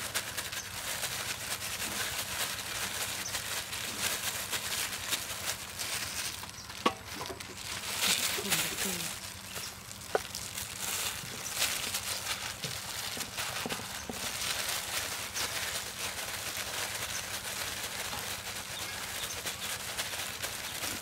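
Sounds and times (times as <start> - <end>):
plastic glove crinkling: 0.0 - 21.0.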